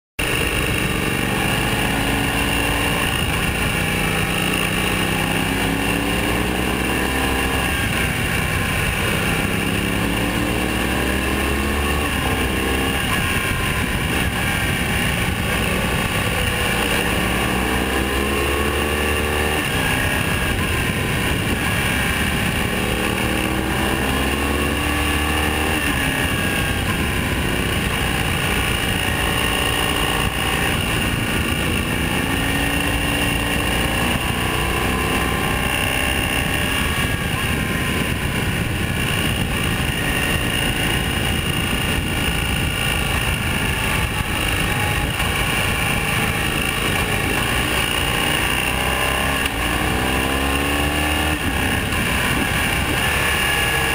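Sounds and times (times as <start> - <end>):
heavy wind rush: 0.2 - 53.9
motorcycle engine shifting gears: 0.2 - 53.9.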